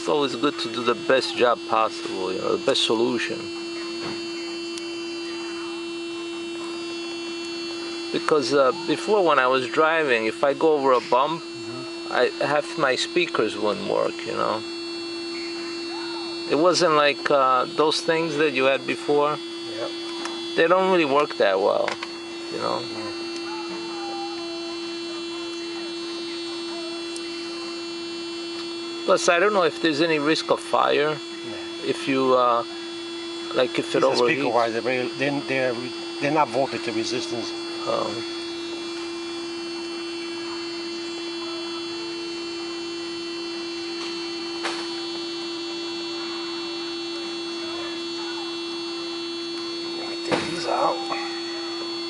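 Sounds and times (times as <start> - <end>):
steady hum: 0.0 - 52.0
thin high whine: 0.0 - 52.0.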